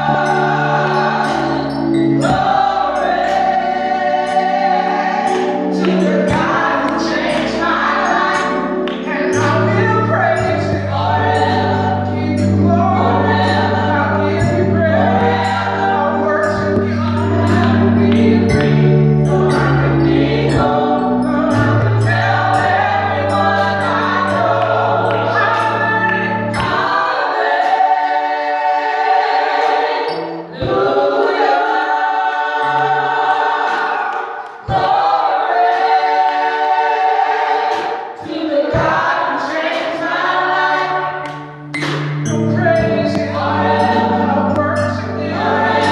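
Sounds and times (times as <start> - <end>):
gospel choir singing: 0.0 - 45.9
instrumental accompaniment with bass: 0.0 - 45.9.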